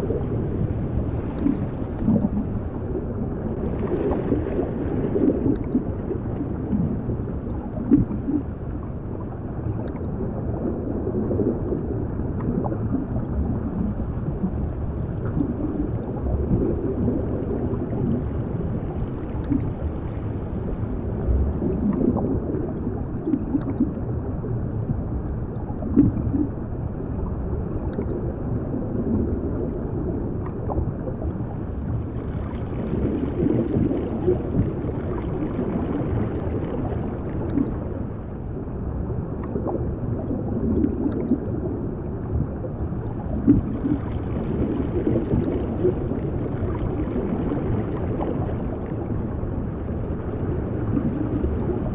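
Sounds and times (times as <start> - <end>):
bubbling and gurgles: 0.0 - 51.9
muffled underwater rumble: 0.0 - 51.9.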